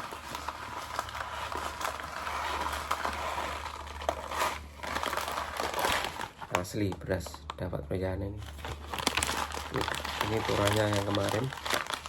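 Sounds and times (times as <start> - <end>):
rice grains rustling by hand: 0.0 - 6.7, 8.4 - 12.0
low steady hum: 0.0 - 12.0.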